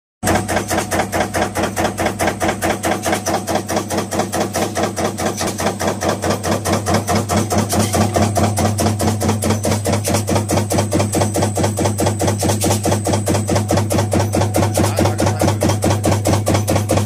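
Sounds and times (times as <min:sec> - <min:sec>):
low machine hum: 0:00.2 - 0:17.0
stamping press striking: 0:00.2 - 0:17.0.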